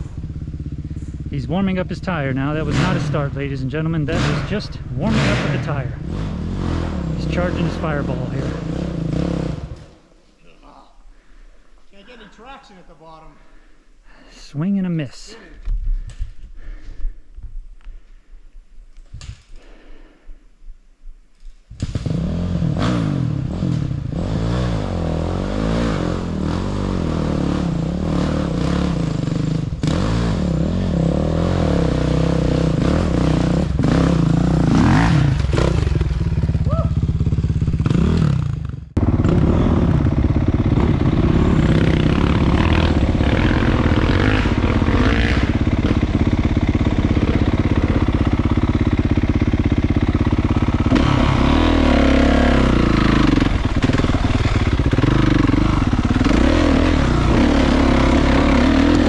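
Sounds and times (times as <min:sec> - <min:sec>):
dirt bike engines revving: 0:00.0 - 0:17.0, 0:21.8 - 0:59.0.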